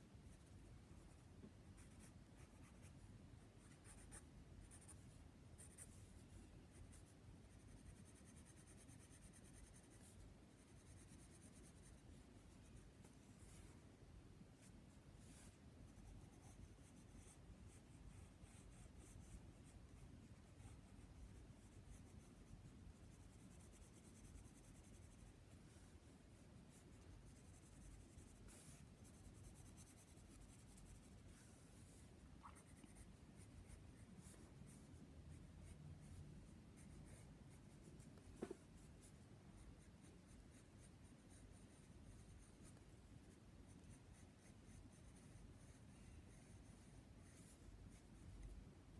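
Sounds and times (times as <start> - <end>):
pencil scratching on paper: 1.8 - 3.0, 3.6 - 13.7, 14.6 - 35.8, 36.7 - 48.5.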